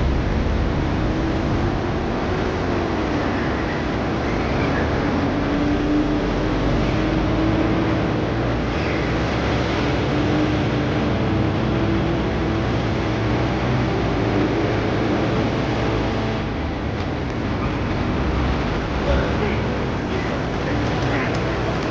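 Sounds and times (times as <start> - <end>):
low engine hum: 0.0 - 21.9
vehicles running on road: 0.0 - 21.9.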